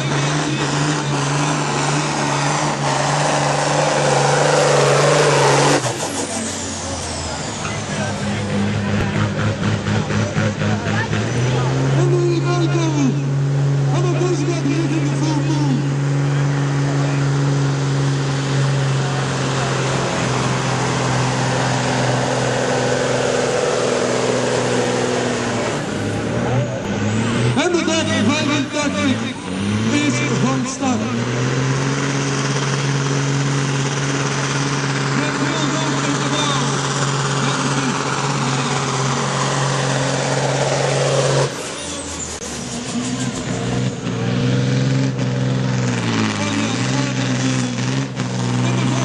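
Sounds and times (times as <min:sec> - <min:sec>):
diesel engine under full load: 0:00.0 - 0:49.0.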